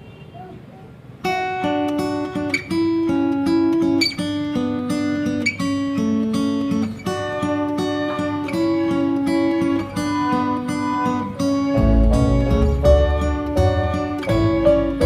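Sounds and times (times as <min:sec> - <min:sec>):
acoustic guitar music: 0:01.0 - 0:15.0.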